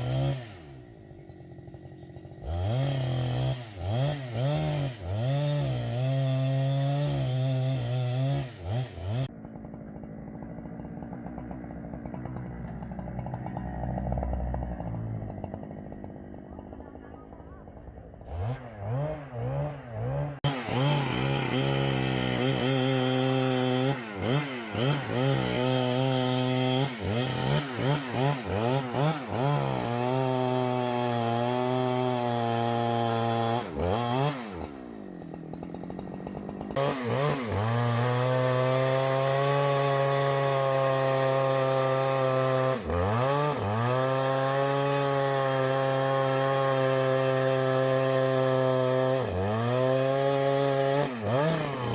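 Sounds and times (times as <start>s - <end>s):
chainsaw cutting into wood: 0.0s - 51.9s
chainsaw revving: 0.0s - 51.9s.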